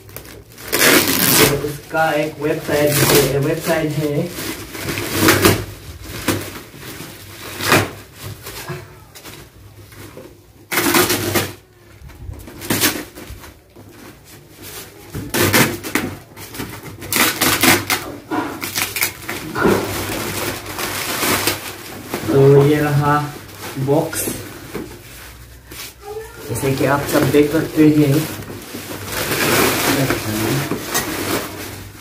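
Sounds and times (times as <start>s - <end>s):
packing tape and cardboard tearing: 0.0s - 32.0s.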